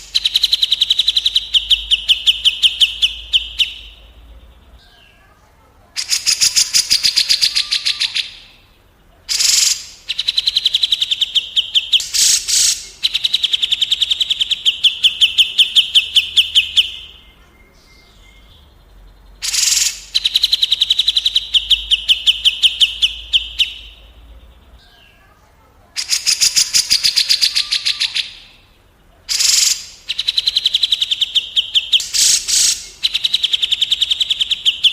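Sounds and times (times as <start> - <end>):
songbird trilling: 0.0 - 8.6, 9.3 - 28.6, 29.3 - 34.9.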